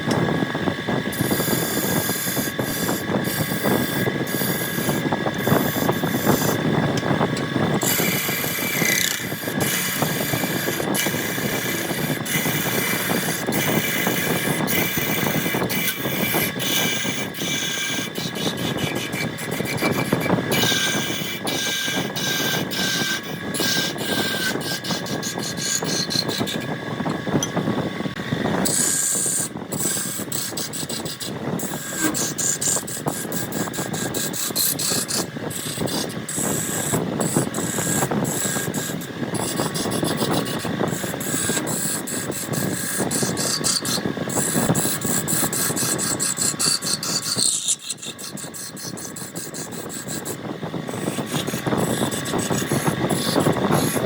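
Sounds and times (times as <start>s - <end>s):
lathe tool scraping wood: 0.0s - 54.0s.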